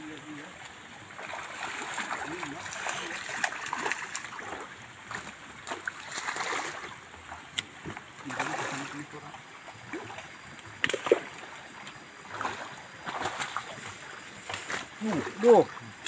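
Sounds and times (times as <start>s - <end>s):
fish splashing in water: 0.5s - 16.0s.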